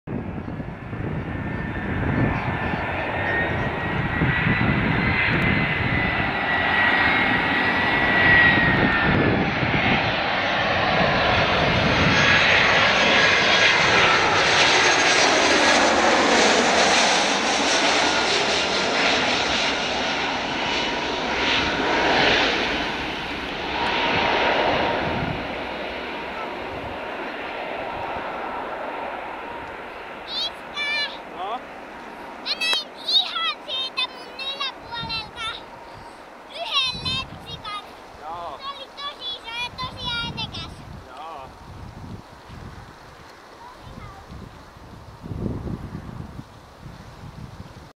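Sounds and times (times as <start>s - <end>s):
jet engines passing overhead: 0.1s - 47.9s.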